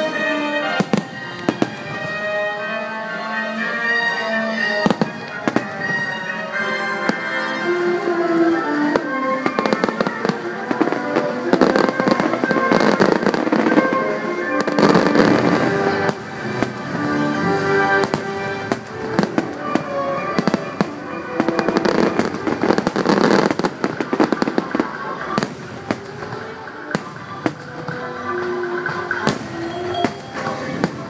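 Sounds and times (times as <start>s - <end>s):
fireworks bursting and crackling: 0.0s - 31.0s
music from loudspeakers: 0.0s - 31.0s.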